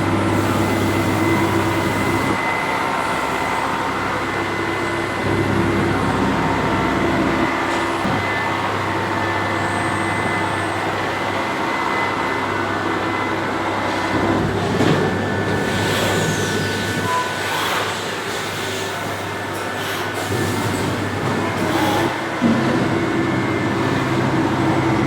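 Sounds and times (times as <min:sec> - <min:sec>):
machine hum with high whine: 0:00.0 - 0:25.0.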